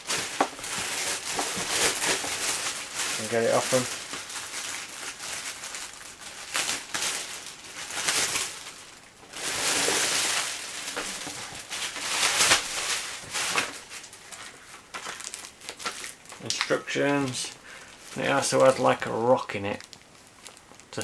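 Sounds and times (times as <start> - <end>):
packaging rustling and crinkling: 0.0 - 21.0
sharp crackles: 0.0 - 21.0.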